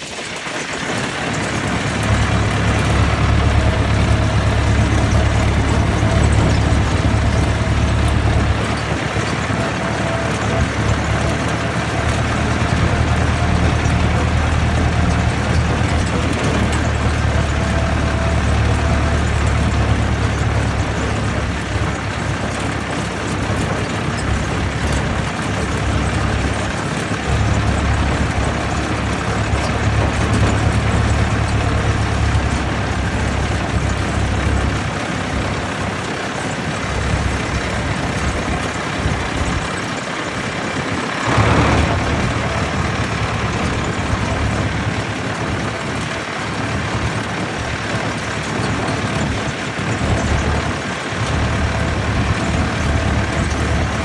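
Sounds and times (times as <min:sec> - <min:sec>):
tractor engines running: 0:00.0 - 0:54.0.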